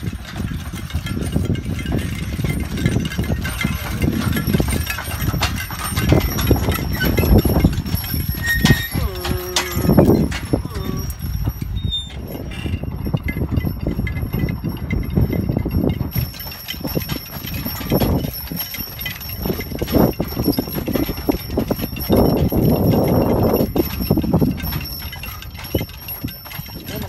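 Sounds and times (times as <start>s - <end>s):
horse hooves clip-clopping on dirt: 0.0s - 27.0s
stagecoach rumbling and rattling: 0.0s - 27.0s.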